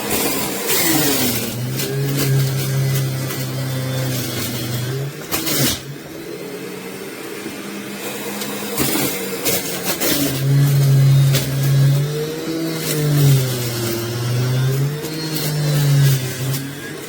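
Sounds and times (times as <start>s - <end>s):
produce cracking in juicer: 0.0s - 6.2s, 8.2s - 17.0s
juicer motor humming: 0.0s - 17.0s.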